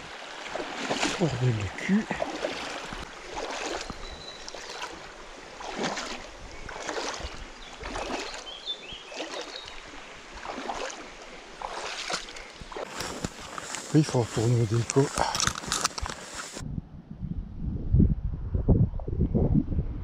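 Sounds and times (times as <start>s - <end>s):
feet wading through water: 0.0s - 16.6s.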